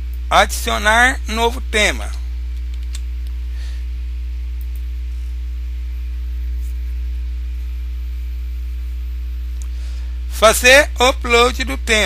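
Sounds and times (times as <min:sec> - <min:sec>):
mains hum with buzz: 0:00.0 - 0:12.0.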